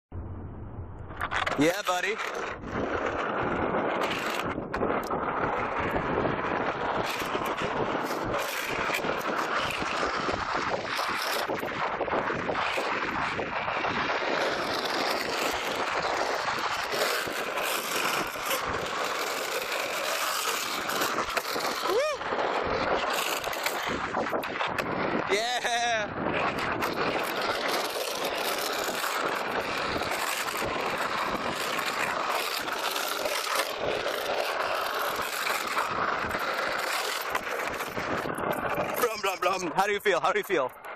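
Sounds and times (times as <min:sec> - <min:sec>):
longboard wheels rolling on asphalt: 0:00.2 - 0:40.9
wind on microphone: 0:00.2 - 0:40.9.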